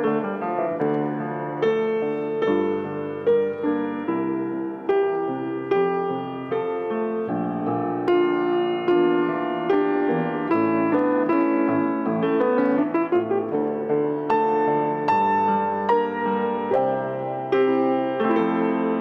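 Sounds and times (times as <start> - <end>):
grand piano chords: 0.0 - 19.0.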